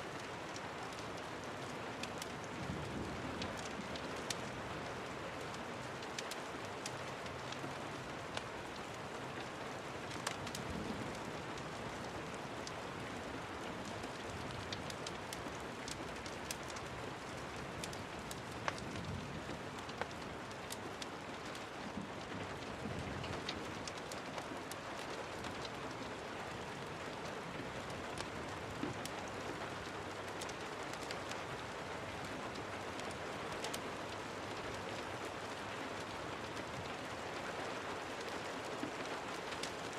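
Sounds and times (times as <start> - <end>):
sharp ticks and crackles: 0.0 - 39.9
steady rain falling: 0.0 - 39.9.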